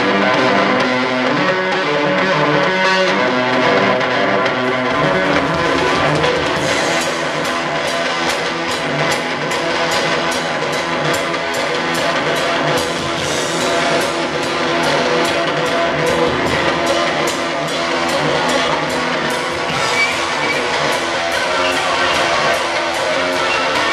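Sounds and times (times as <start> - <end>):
live rock band playing: 0.0 - 23.9
drum kit steady beat: 3.6 - 23.9.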